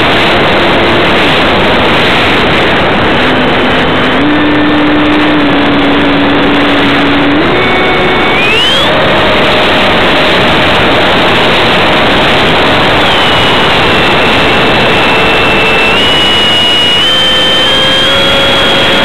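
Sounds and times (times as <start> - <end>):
electric motor and propeller whining: 0.0 - 19.0
wind rushing: 0.0 - 19.0.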